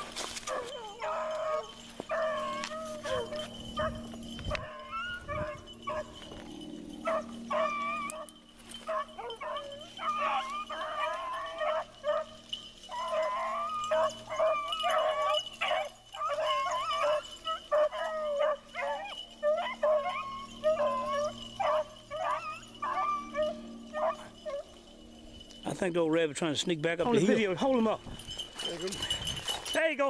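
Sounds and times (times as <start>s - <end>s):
hounds baying and howling: 0.0s - 30.0s.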